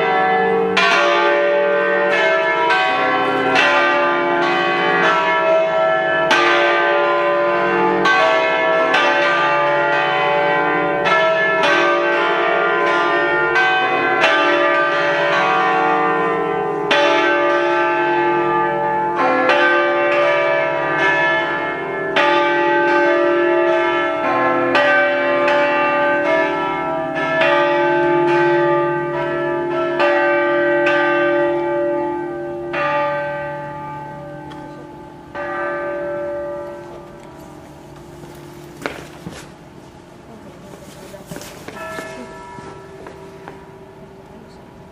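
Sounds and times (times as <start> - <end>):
church bells pealing: 0.0 - 44.9.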